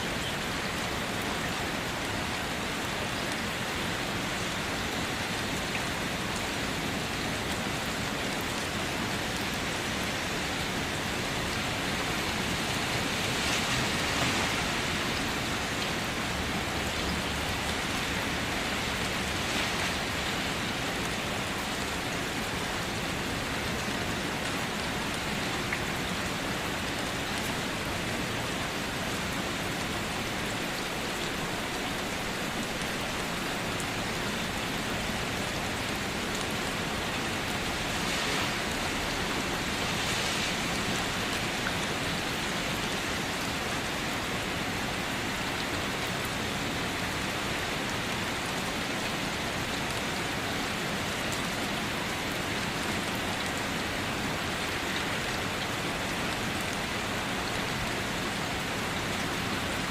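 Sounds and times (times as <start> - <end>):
rain falling on a car: 0.0 - 59.9.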